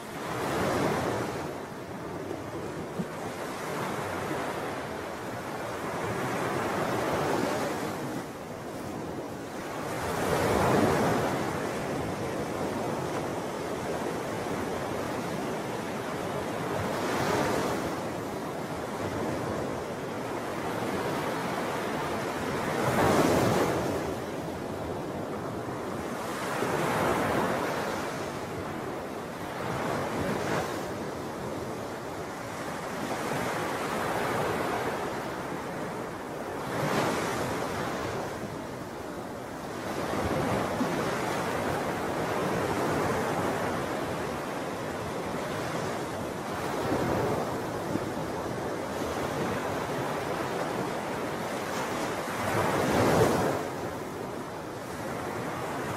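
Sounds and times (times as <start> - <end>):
wind: 0.0 - 55.9.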